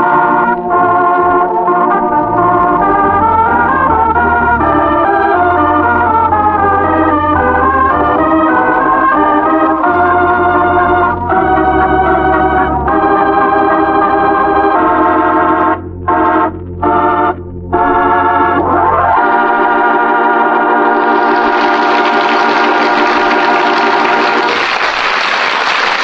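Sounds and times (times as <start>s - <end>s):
organ chords: 0.0s - 26.0s.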